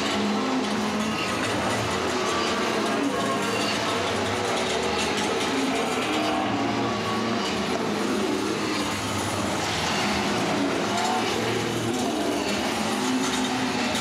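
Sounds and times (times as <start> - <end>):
wavering drones: 0.0 - 14.0.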